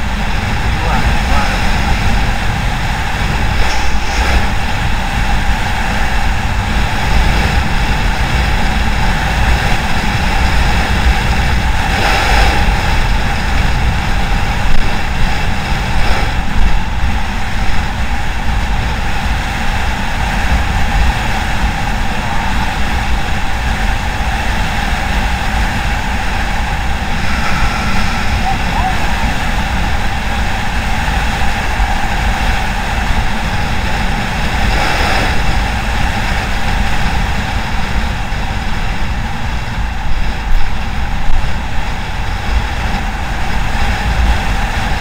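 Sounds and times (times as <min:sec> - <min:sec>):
motorcycle engine running: 0:00.0 - 0:45.0
wind buffeting microphone: 0:00.0 - 0:45.0.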